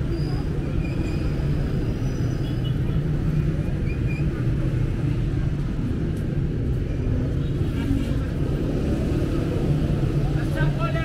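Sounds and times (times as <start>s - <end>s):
low rumble of street traffic: 0.0s - 11.0s
motorcycles and cars passing: 1.3s - 11.0s.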